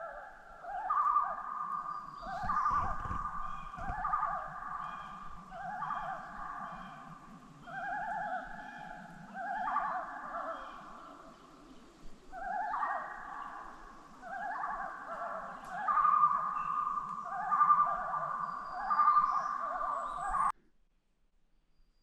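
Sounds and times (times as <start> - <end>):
loons tremolo calls: 0.0 - 20.5.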